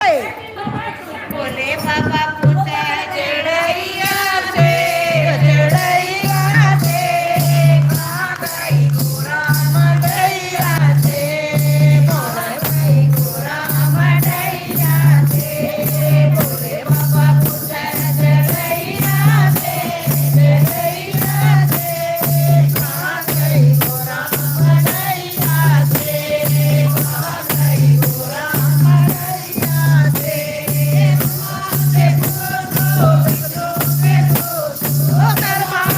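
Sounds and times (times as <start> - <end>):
group singing devotional song: 0.0 - 35.9
jingling percussion: 1.6 - 35.9
low drum beat: 4.6 - 35.9.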